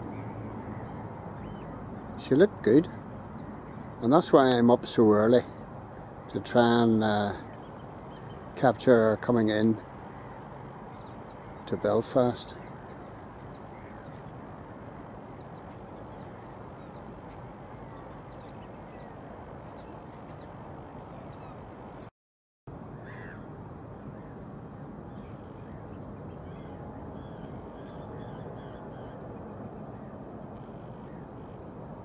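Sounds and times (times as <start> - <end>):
distant birds calling: 0.0 - 22.1, 23.0 - 32.0.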